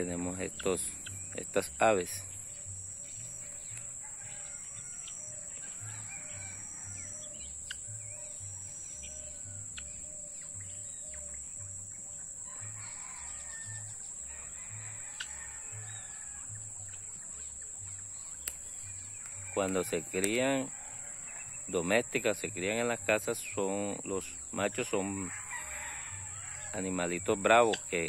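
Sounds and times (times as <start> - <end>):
domestic fowl calling: 0.0 - 28.0
high-pitched insect drone: 0.0 - 28.0.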